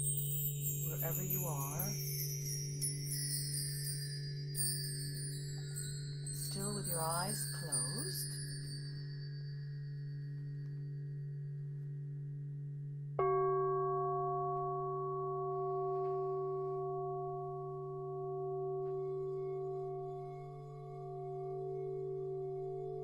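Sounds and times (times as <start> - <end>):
singing bowl struck: 0.0 - 23.0
singing bowls ringing: 0.0 - 23.0.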